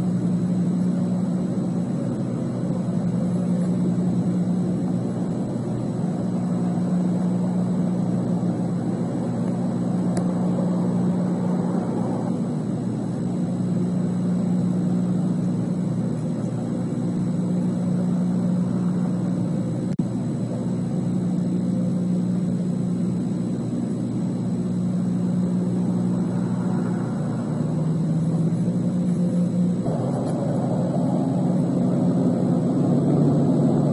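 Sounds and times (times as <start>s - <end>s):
low rumble and hiss: 0.0s - 33.9s.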